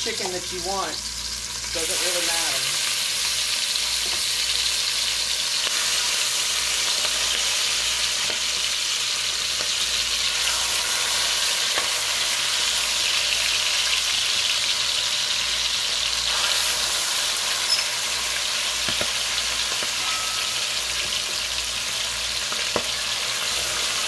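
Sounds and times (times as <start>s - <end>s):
chicken sizzling in oil: 0.0s - 24.0s.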